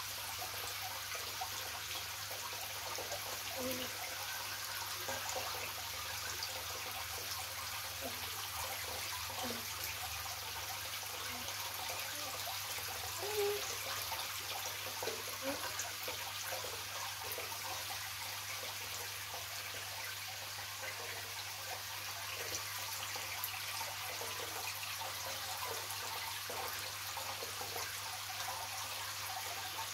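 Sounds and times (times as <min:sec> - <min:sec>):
aquarium water trickling and bubbling: 0:00.0 - 0:29.9.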